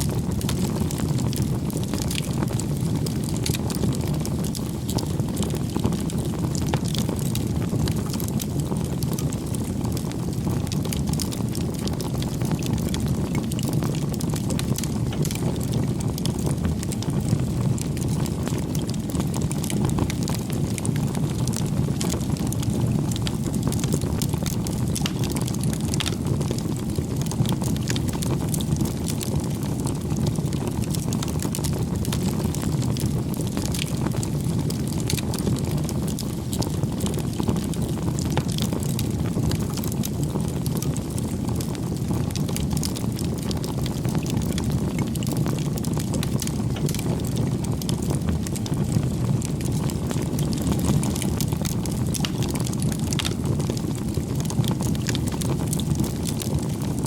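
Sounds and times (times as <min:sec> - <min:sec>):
fire crackling and popping: 0:00.0 - 0:57.0
low rumble of flames: 0:00.0 - 0:57.0.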